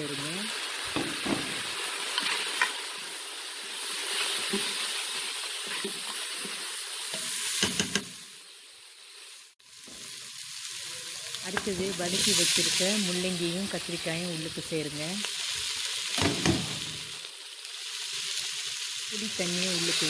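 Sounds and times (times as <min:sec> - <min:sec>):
masala sizzling in oil: 0:00.0 - 0:20.0.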